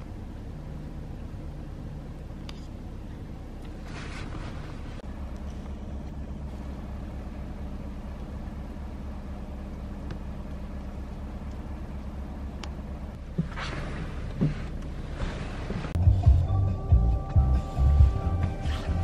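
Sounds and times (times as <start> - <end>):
truck engine humming: 0.0 - 19.0.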